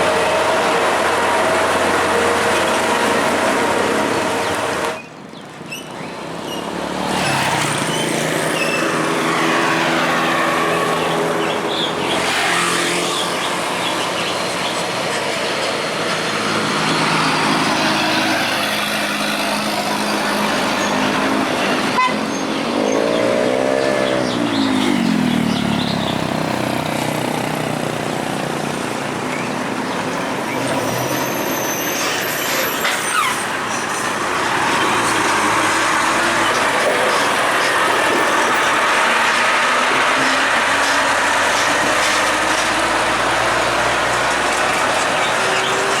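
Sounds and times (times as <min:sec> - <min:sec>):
diesel engines and tyre noise: 0:00.0 - 0:46.0
heavy trucks passing: 0:00.0 - 0:46.0.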